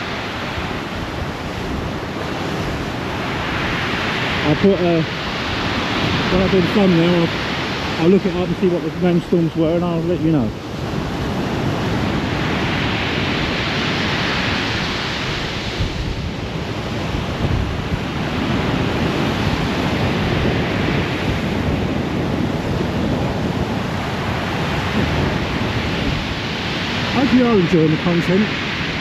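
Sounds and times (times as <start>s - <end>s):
rough sea breaking on shore: 0.0s - 29.0s
wind buffeting microphone: 0.0s - 29.0s.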